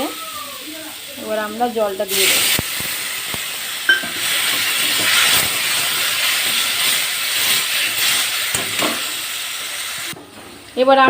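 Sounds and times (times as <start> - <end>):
water hissing in hot oil: 0.0 - 10.8.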